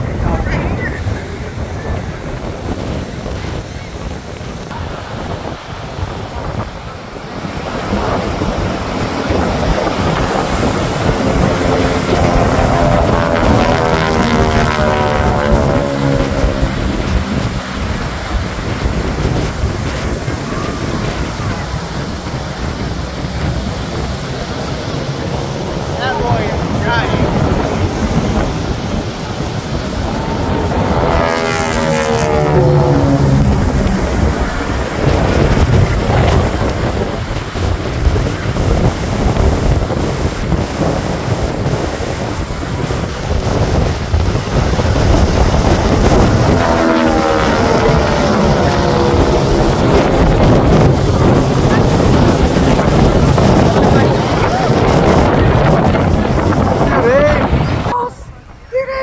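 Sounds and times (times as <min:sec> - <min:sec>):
propeller airplane engine drone: 0:00.0 - 0:58.7
surf: 0:00.0 - 0:59.0
wind buffeting microphone: 0:00.0 - 0:59.0.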